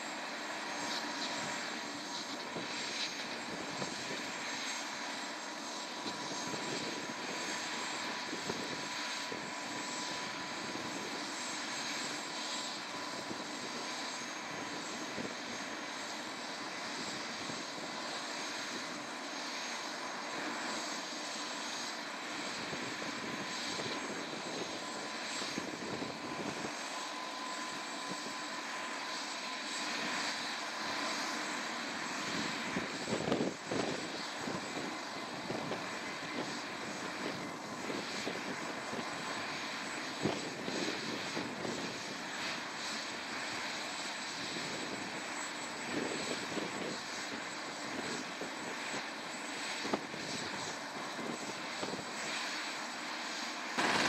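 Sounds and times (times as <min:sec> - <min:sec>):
helicopter engine whine and hiss: 0:00.0 - 0:54.0.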